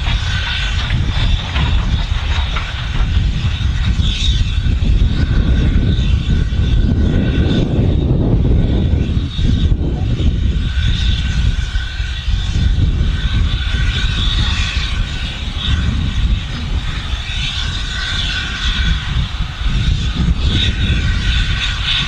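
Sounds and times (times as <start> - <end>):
distant steam trains rumbling: 0.0 - 22.0.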